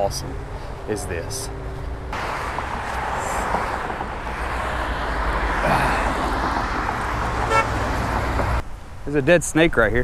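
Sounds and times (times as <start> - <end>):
cars driving past: 0.0 - 8.6.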